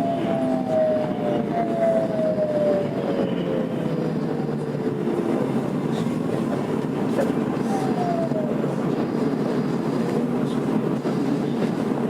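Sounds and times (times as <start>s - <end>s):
train wheel and running noise: 0.0s - 12.0s.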